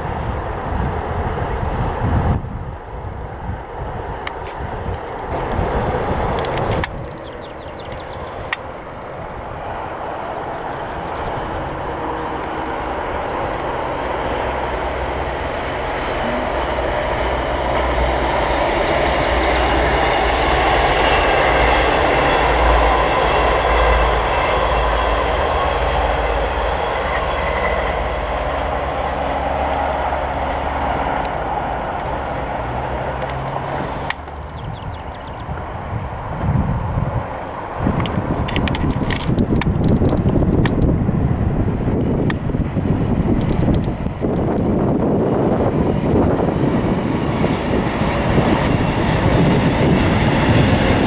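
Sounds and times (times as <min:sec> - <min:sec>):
train diesel engines rumbling: 0:00.0 - 0:51.0
train wheels on rails: 0:00.0 - 0:51.0.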